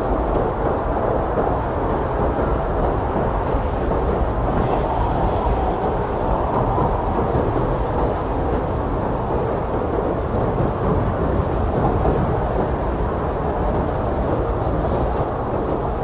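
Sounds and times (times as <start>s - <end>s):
blizzard wind roaring: 0.0s - 16.0s.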